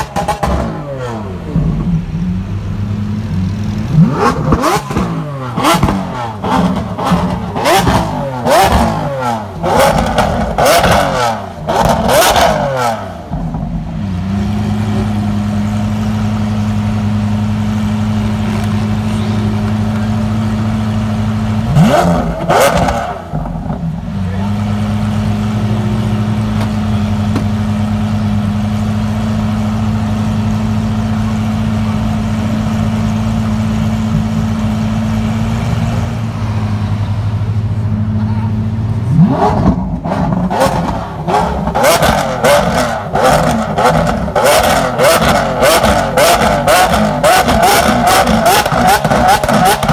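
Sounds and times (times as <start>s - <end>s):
car engine revving and idling: 0.0s - 49.9s.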